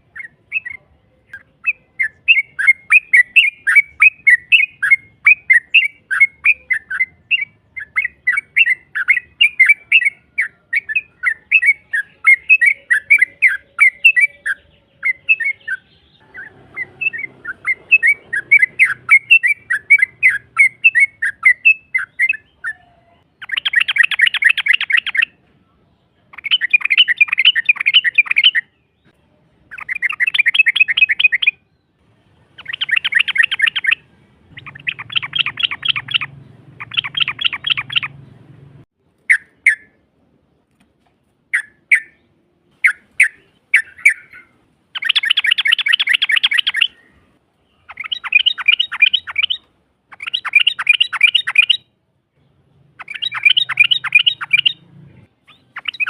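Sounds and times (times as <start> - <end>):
sharp bird chirps: 0.0 - 25.4, 26.3 - 38.7, 41.5 - 56.0.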